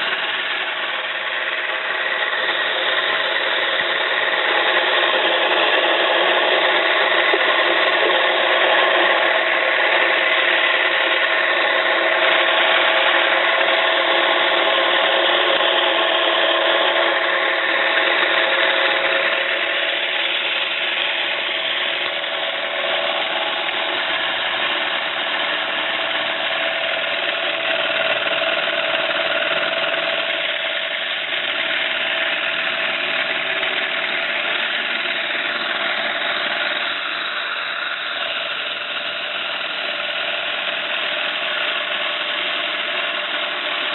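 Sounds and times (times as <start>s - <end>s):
steam engine model hissing: 0.0s - 43.9s.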